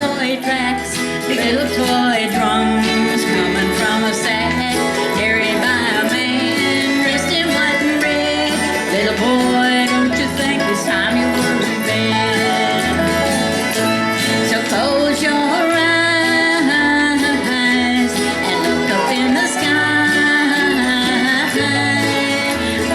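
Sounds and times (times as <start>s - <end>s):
acoustic guitar: 0.0s - 22.9s
bass line: 0.0s - 22.9s
person singing: 0.0s - 22.9s.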